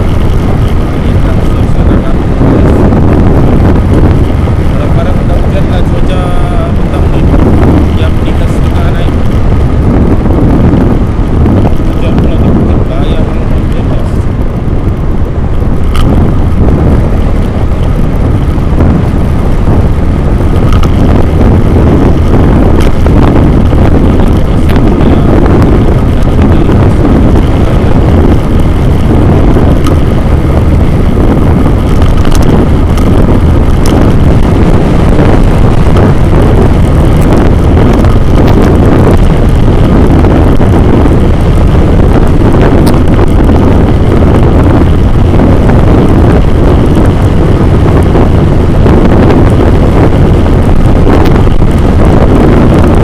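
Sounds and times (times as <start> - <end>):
vehicle and road noise rumbling: 0.0 - 53.0
wind buffeting microphone: 0.0 - 53.0.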